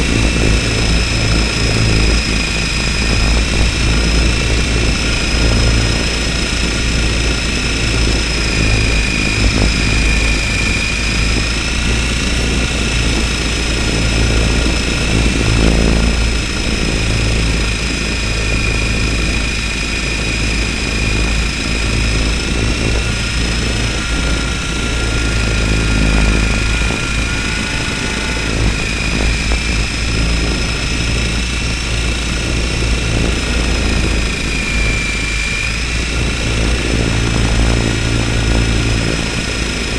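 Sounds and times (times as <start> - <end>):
helicopter motor high whine: 0.0 - 39.9
rotor vibration low drone: 0.0 - 39.9.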